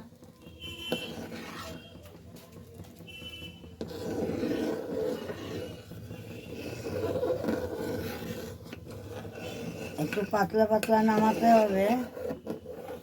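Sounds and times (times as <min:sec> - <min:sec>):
dough rubbing and rasping: 0:00.8 - 0:03.0, 0:03.6 - 0:13.0.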